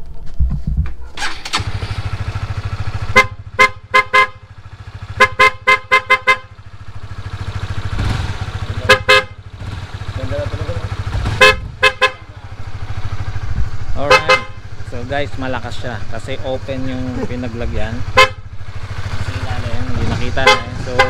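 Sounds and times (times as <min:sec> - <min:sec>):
motorcycle engine idling: 0:01.1 - 0:21.0
motorcycle horn tooting: 0:01.2 - 0:13.4, 0:14.0 - 0:15.0, 0:17.3 - 0:21.0.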